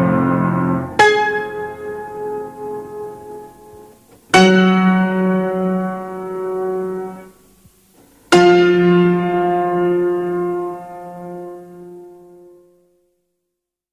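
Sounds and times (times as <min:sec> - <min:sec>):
piano chords ringing: 0:00.0 - 0:07.6, 0:08.3 - 0:13.0.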